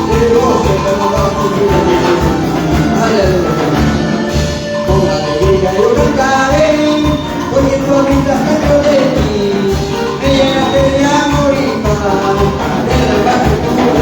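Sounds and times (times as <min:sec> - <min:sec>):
church band playing: 0:00.0 - 0:14.0
low drum beat: 0:00.0 - 0:14.0
person singing: 0:00.0 - 0:14.0.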